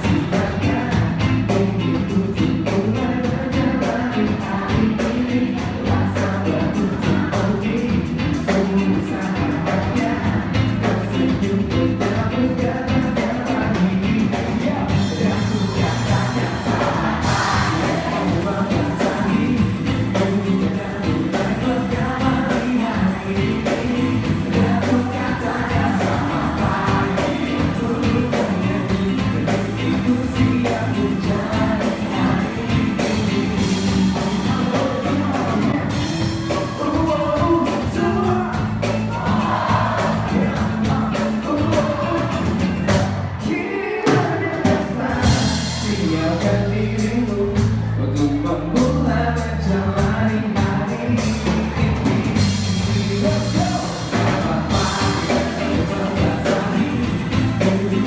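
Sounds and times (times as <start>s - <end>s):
live pop band: 0.0s - 58.0s
person singing: 0.0s - 58.0s.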